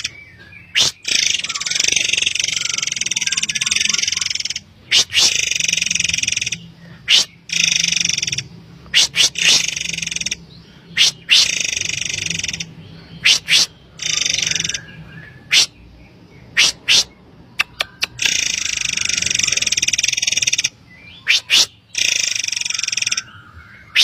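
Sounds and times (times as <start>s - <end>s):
bird buzzy trilled calls: 0.0s - 15.8s, 16.4s - 24.0s.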